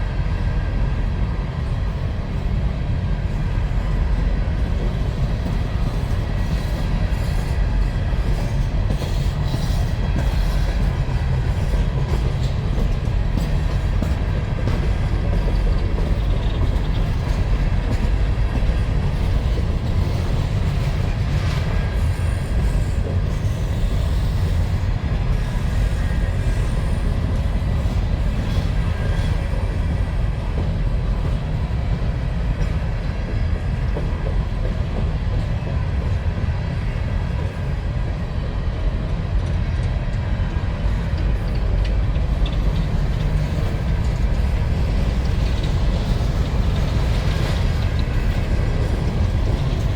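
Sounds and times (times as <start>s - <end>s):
freight train rolling past: 0.0s - 49.9s.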